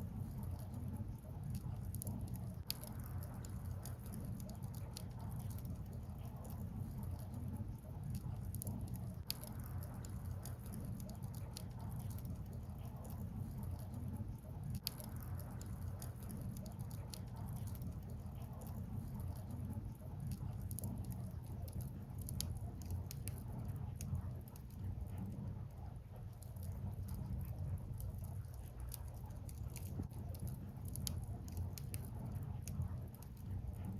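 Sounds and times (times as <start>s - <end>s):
fire crackling and popping: 0.0s - 33.9s
low rumble of fire: 0.0s - 33.9s.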